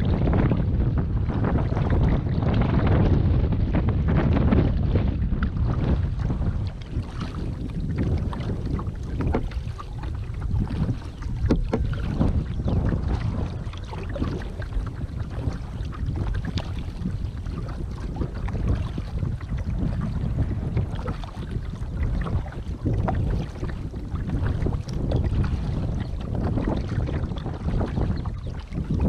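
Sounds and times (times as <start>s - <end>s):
paddle splashes and lapping water: 0.0s - 29.0s
wind buffeting microphone: 0.0s - 29.0s.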